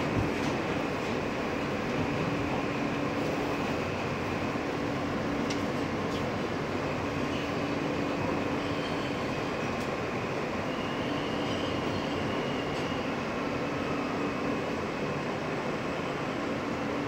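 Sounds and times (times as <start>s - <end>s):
subway car rumble: 0.0s - 17.0s.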